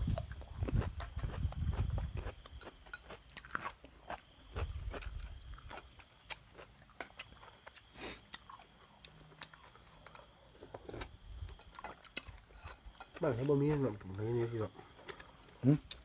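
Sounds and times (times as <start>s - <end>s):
person chewing and crunching food: 0.0s - 16.0s.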